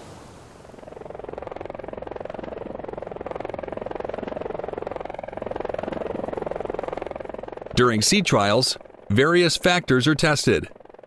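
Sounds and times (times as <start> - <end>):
helicopter rotor pulsing: 0.0 - 11.0.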